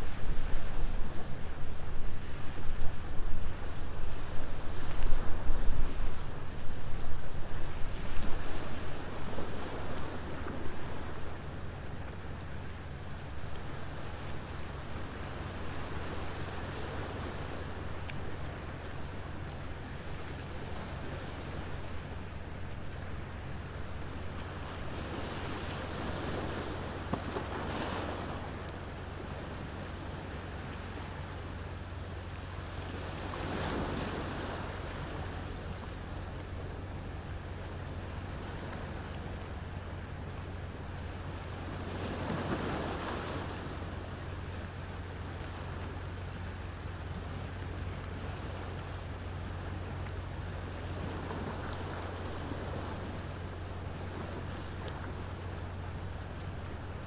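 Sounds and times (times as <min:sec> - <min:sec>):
low rumble of surf: 0:00.0 - 0:57.0
ocean waves washing ashore: 0:00.0 - 0:57.0.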